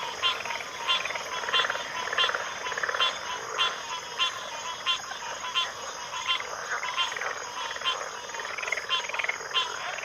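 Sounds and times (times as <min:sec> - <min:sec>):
chorus of frogs calling: 0:00.0 - 0:10.0
sharp repeating frog call: 0:00.0 - 0:10.0.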